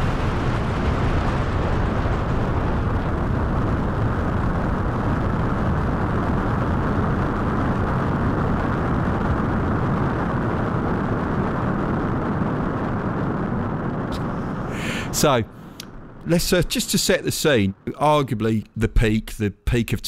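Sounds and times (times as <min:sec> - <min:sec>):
rocket launch rumble: 0:00.0 - 0:20.0.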